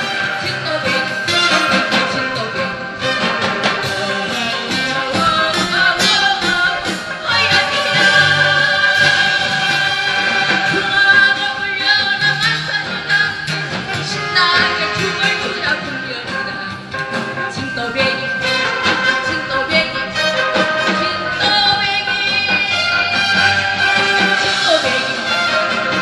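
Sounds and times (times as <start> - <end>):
instrumental accompaniment: 0.0 - 26.0
woman singing: 0.0 - 26.0.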